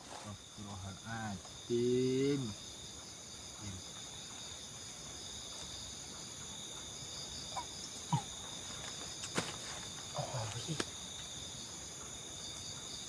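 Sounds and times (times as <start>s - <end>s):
insects droning shrilly: 0.0s - 13.0s.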